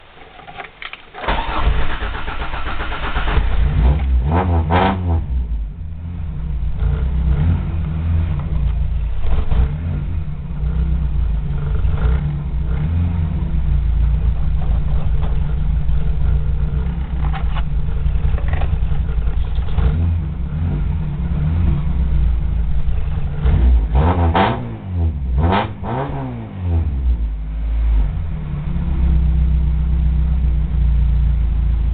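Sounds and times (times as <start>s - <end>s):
car engine starting and idling: 0.0s - 31.9s
engine revving: 1.2s - 30.6s.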